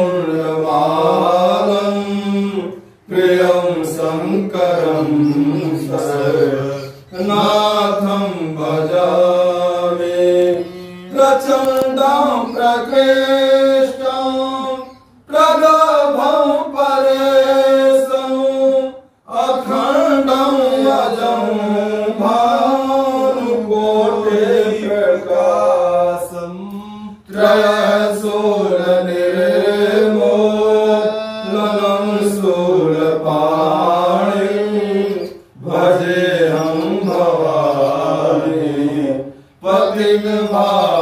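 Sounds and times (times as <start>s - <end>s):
man chanting: 0.0s - 41.0s.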